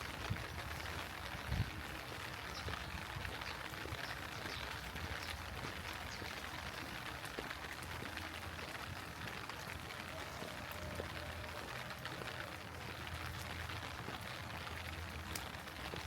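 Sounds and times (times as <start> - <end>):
heavy rainfall: 0.0 - 16.0
raindrop ticks: 0.0 - 16.0.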